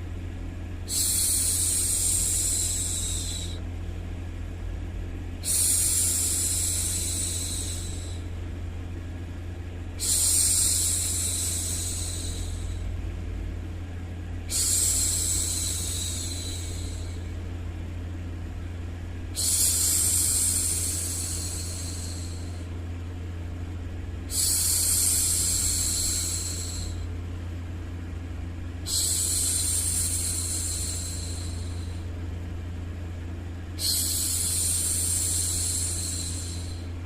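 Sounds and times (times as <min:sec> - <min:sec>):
low white noise: 0:00.0 - 0:37.0.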